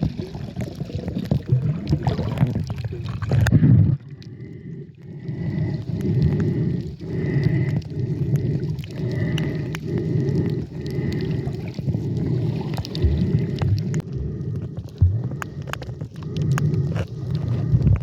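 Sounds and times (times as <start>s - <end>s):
muffled underwater rumble: 0.0s - 18.0s.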